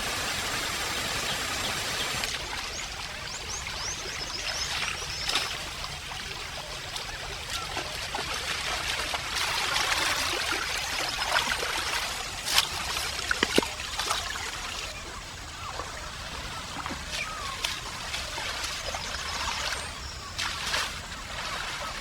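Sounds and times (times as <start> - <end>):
stream water trickling: 0.0 - 22.0.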